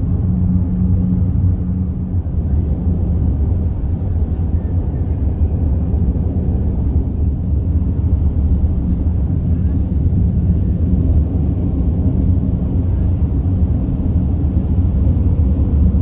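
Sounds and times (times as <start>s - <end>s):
road and engine rumble in cabin: 0.0s - 16.0s.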